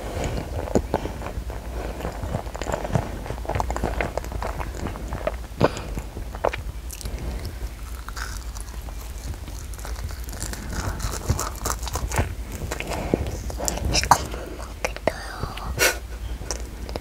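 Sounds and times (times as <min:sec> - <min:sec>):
child chewing jelly ball: 0:00.0 - 0:17.0.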